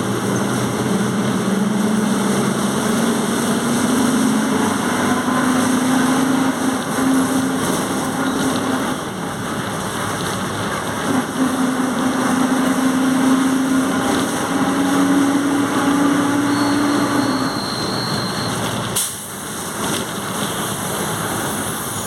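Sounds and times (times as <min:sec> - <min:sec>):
bus engine running: 0:00.0 - 0:22.0
road noise: 0:00.0 - 0:22.0.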